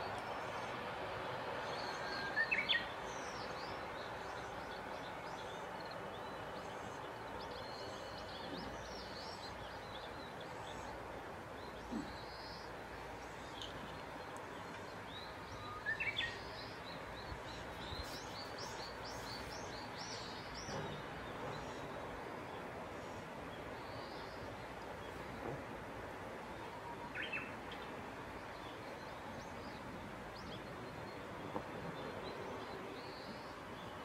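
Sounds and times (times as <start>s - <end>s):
background hiss: 0.0s - 34.0s.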